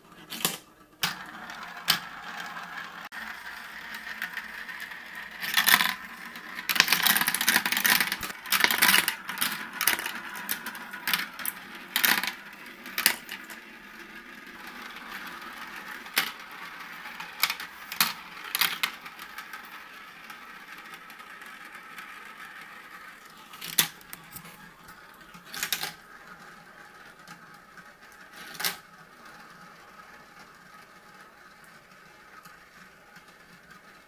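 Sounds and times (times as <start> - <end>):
marbles rolling on a track: 0.2 - 34.0
marbles clacking on track: 0.3 - 24.4, 25.3 - 31.1.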